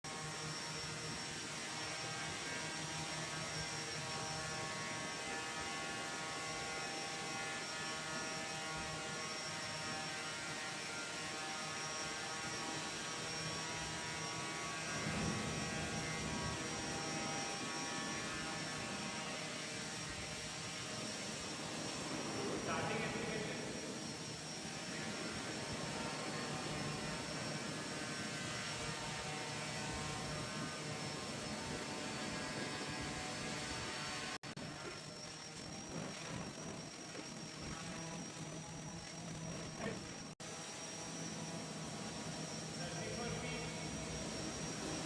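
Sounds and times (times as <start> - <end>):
quadcopter motors humming: 0.1 - 45.0.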